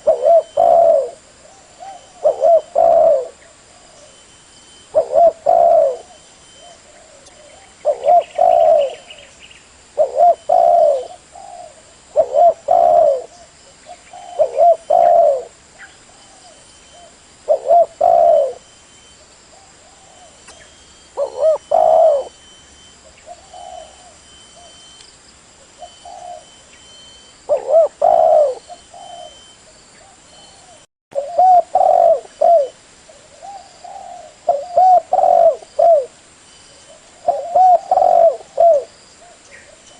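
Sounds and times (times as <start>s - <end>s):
dove cooing: 0.0s - 4.3s, 4.9s - 9.3s, 10.0s - 24.9s, 25.7s - 26.6s, 27.5s - 36.2s, 36.8s - 39.9s.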